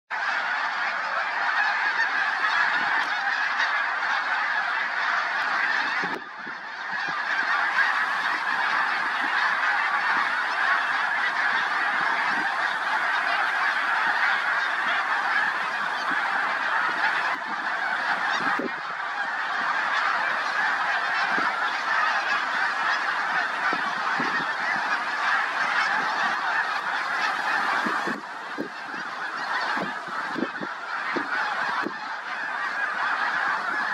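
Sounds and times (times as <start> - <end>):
geese honking: 0.1 - 33.9.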